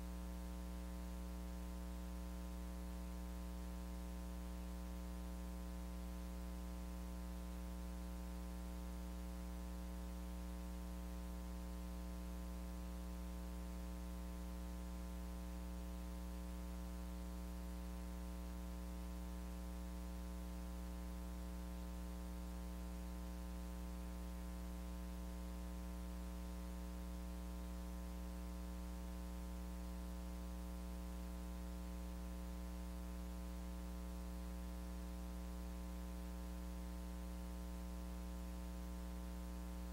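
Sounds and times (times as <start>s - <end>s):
electrical mains hum and buzz: 0.0s - 39.9s.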